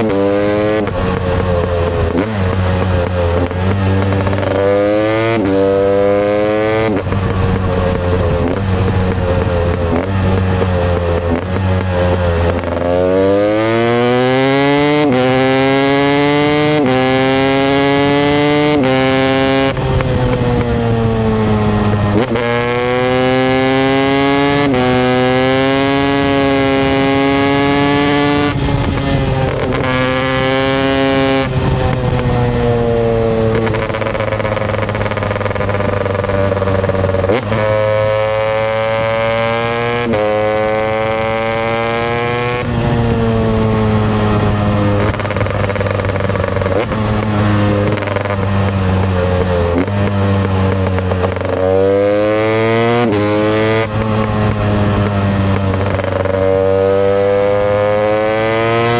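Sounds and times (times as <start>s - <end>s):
two-stroke motorcycle engine revving: 0.0s - 58.9s.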